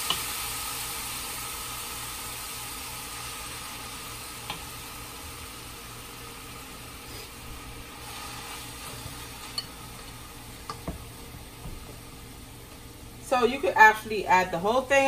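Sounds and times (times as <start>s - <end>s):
chicken sizzling in pot: 0.0s - 12.7s.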